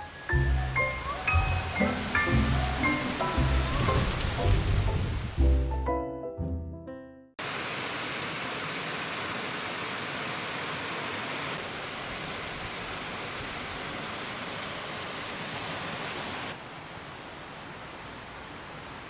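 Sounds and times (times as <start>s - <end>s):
stream water rushing over rocks: 0.0s - 5.4s, 7.4s - 19.0s.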